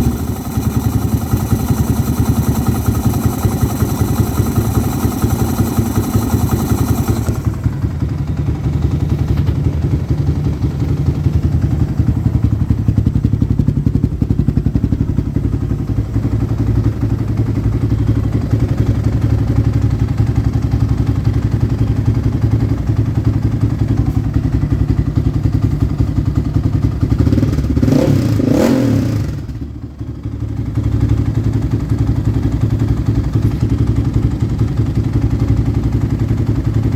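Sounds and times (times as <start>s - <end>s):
quad engine idling and revving: 0.0s - 36.9s.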